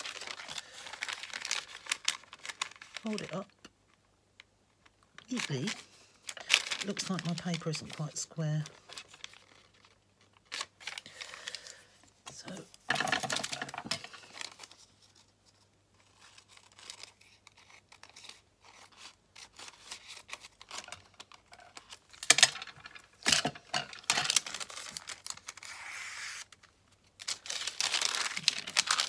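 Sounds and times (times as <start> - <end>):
paper rustling and crinkling: 0.0 - 4.0, 4.7 - 29.0.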